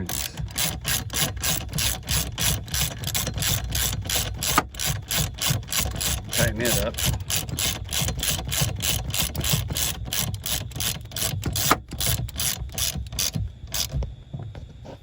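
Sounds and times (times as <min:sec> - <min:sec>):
socket ratchet clicking: 0:00.0 - 0:14.0.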